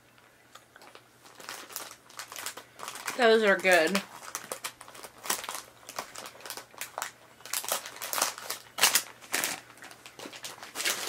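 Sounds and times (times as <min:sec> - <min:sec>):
plastic bag crinkling: 0:00.7 - 0:11.0.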